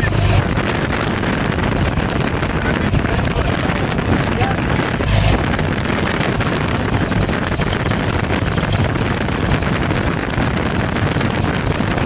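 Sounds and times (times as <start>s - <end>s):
aircraft engine and propeller: 0.0s - 12.0s.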